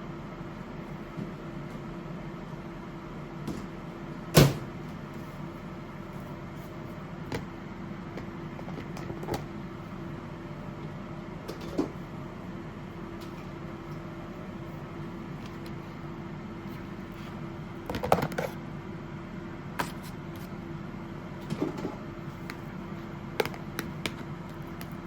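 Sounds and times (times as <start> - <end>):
appliance hum: 0.0 - 25.0.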